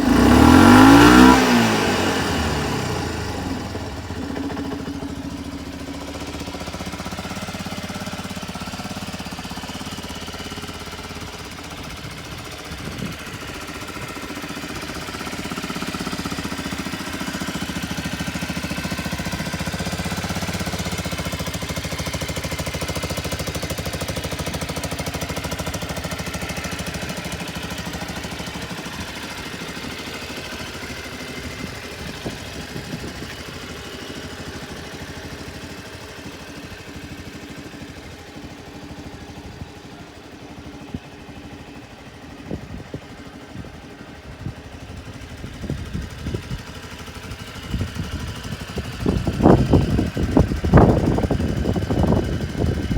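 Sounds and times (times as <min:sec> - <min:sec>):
scooter engine running: 0:00.0 - 0:52.9.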